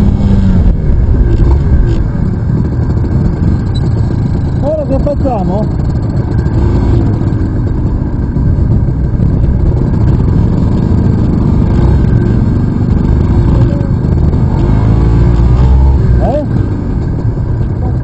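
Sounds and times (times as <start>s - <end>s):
motorcycle engine running: 0.0s - 18.0s
wind rumble on microphone: 0.0s - 18.0s.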